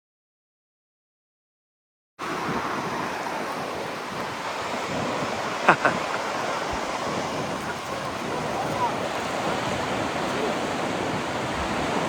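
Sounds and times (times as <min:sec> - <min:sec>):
waterfall roaring: 0:02.2 - 0:12.0
wind buffeting microphone: 0:02.2 - 0:12.0.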